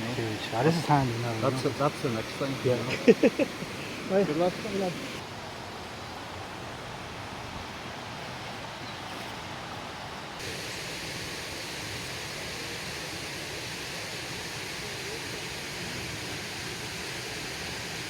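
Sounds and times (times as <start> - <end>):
waterfall rushing: 0.0 - 7.5, 10.2 - 18.0.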